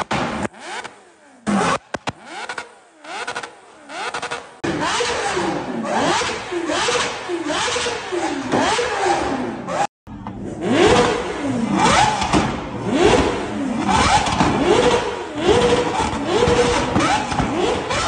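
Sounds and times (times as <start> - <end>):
engines revving hard: 0.0 - 18.0.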